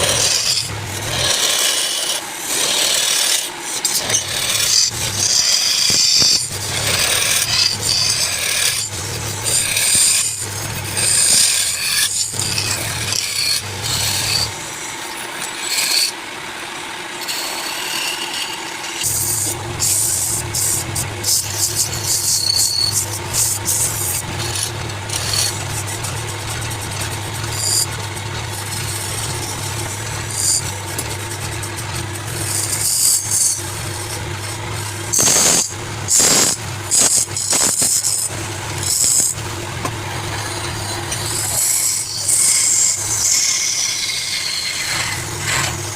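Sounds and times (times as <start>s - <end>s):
lathe motor humming: 0.0s - 45.9s
turning tool rasping on wood: 0.0s - 45.9s.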